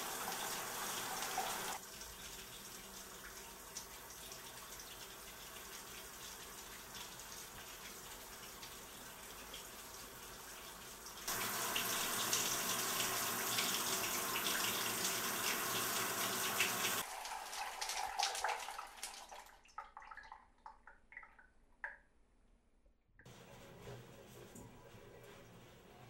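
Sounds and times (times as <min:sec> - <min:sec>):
water running from a tap into a sink: 0:00.0 - 0:21.1
water trickling and dripping: 0:00.0 - 0:22.1.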